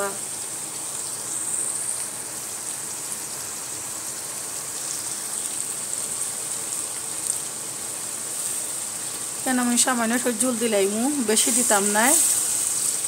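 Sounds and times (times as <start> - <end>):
curry sizzling and bubbling in pot: 0.0 - 13.0.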